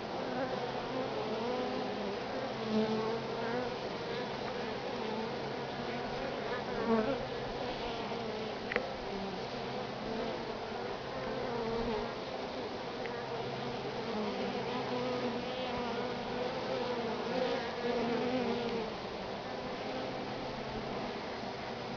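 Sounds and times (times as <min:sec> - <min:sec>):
bee swarm buzzing: 0:00.0 - 0:21.9.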